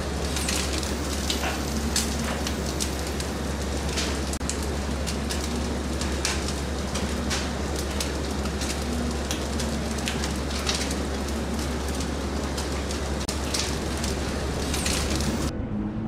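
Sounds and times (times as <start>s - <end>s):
eel sizzling on a grill: 0.0s - 15.5s
low hum: 0.0s - 16.0s.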